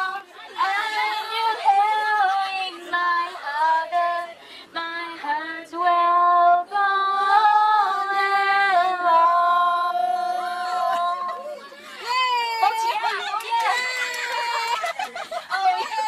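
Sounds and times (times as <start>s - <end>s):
woman singing unaccompanied: 0.0s - 13.5s.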